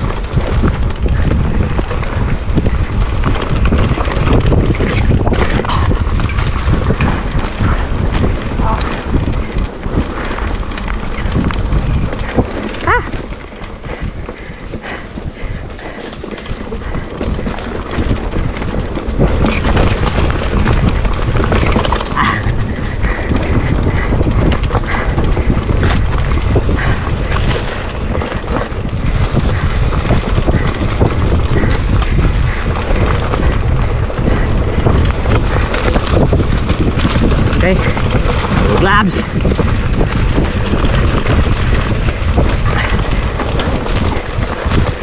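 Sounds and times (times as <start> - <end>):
bike clicks and rattles: 0.0 - 45.0
bike tyres rolling on dirt and leaves: 0.0 - 45.0
wind buffeting microphone: 0.0 - 45.0.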